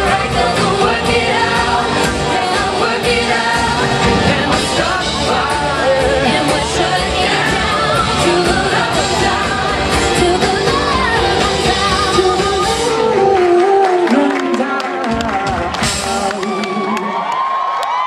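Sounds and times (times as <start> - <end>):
live pop-rock band playing: 0.0 - 17.0
lead and backing vocals: 0.0 - 18.0.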